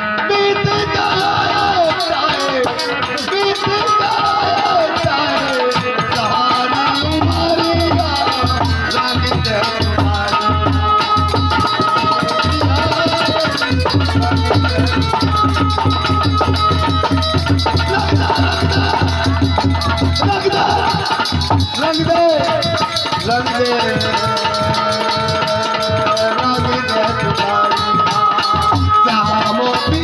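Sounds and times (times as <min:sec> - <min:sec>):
drum beating steady rhythm: 0:00.0 - 0:30.0.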